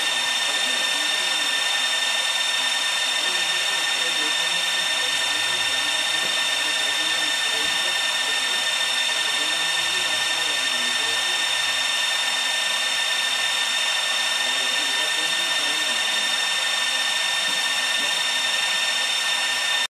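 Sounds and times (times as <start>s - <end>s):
cooling fans whirring: 0.0s - 19.9s.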